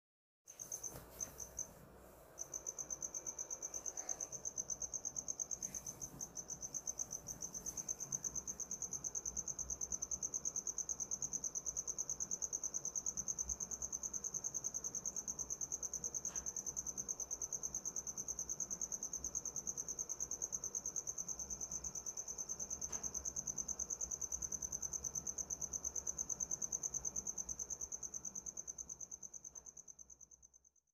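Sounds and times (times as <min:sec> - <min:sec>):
cricket trilling: 0:02.4 - 0:30.7.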